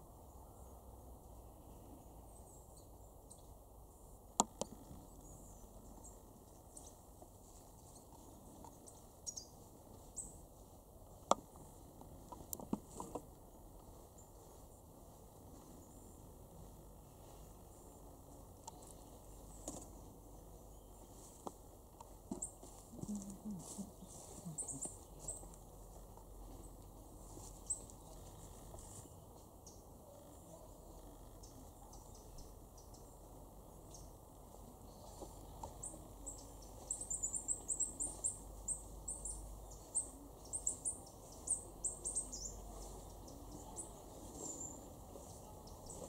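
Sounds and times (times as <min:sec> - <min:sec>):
birds giving high thin calls: 0:04.4 - 0:21.5, 0:22.2 - 0:46.0
rustling in dry leaves: 0:04.8 - 0:46.0.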